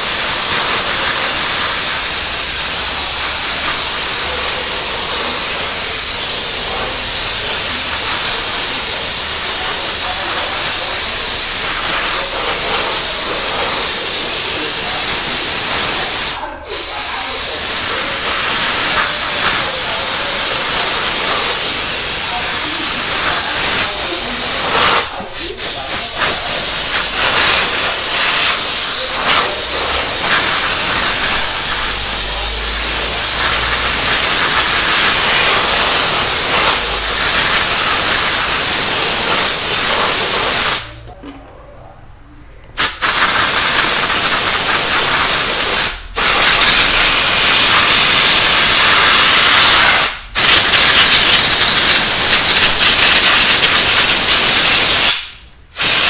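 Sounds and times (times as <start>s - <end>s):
compressed air gun hissing: 0.0s - 41.0s, 42.8s - 56.0s.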